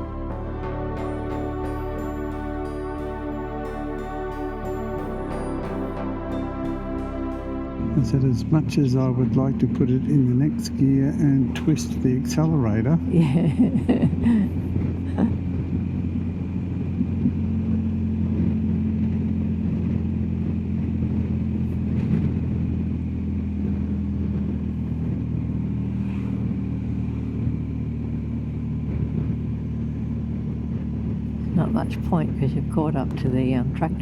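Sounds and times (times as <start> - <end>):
motorcycle engine running: 0.0 - 34.0
wind and road noise: 0.0 - 34.0.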